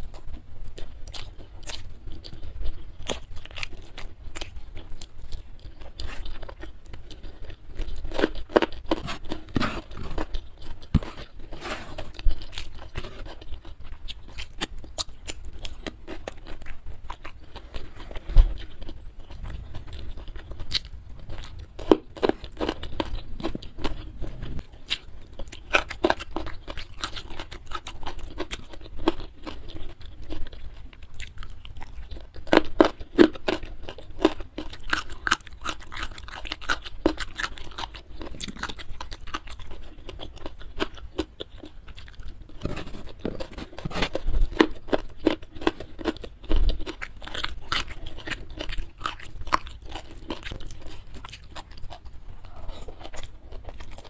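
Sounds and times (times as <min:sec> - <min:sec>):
chewing food: 0:00.0 - 0:54.0.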